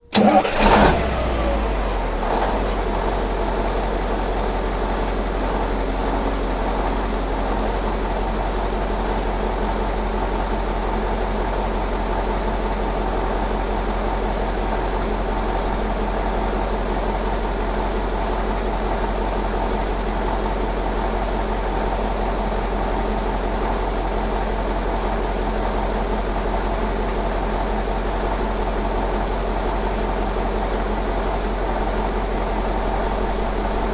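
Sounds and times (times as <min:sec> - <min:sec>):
diesel car engine starting: 0:00.0 - 0:33.9
diesel engine idling: 0:00.0 - 0:33.9.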